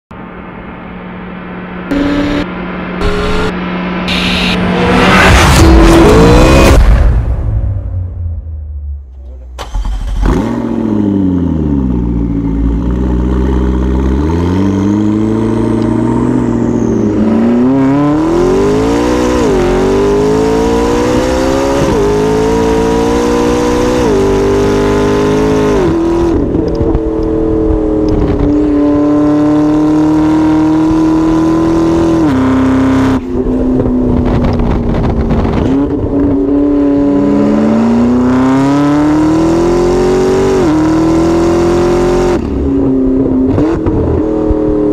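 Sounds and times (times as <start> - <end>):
car engine accelerating hard: 0.2 - 7.3, 9.6 - 44.9.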